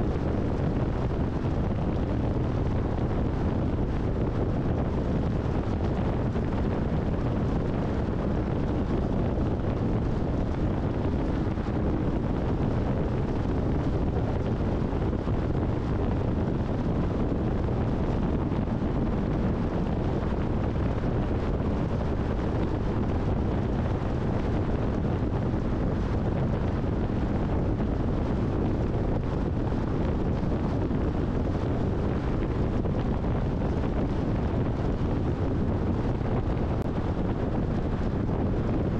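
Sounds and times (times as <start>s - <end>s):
car road and wind noise: 0.0s - 38.9s.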